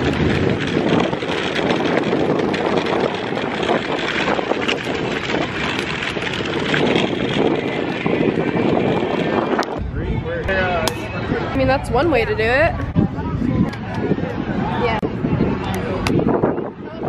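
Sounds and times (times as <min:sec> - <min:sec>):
rushing rattling riding noise: 0:00.0 - 0:17.0
wind buffeting microphone: 0:00.0 - 0:17.0.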